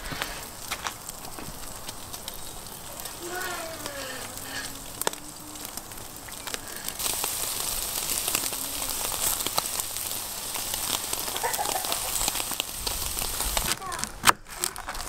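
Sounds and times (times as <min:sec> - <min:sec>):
fat crackling and popping: 0:00.0 - 0:15.0
meat sizzling over charcoal: 0:00.0 - 0:15.0.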